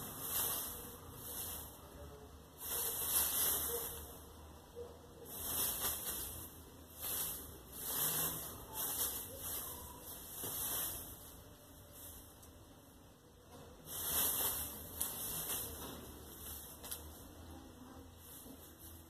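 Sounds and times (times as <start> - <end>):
shredded newspaper rustling: 0.0 - 4.4, 5.2 - 12.4, 13.8 - 19.0.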